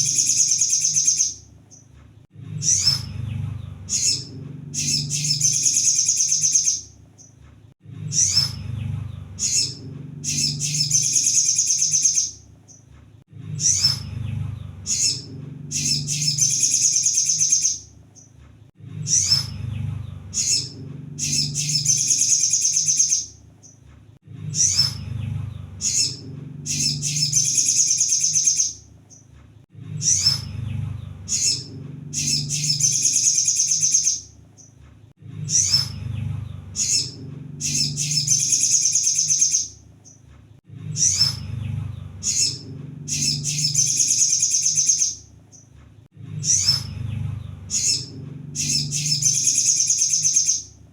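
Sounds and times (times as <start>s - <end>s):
bird twittering song: 0.0s - 23.8s, 24.4s - 29.3s, 29.9s - 34.8s, 35.4s - 45.8s, 46.4s - 50.8s
low recording hum: 0.0s - 50.9s.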